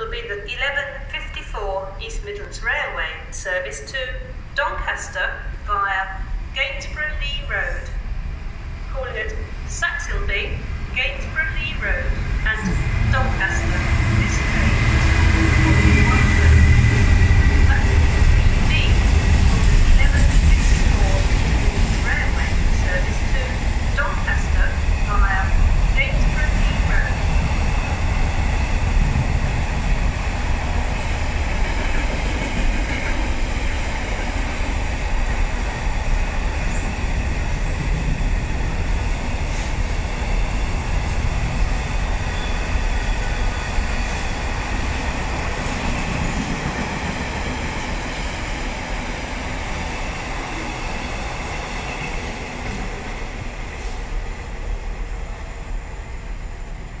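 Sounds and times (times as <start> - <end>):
freight train wheels on rails: 9.6 - 57.0.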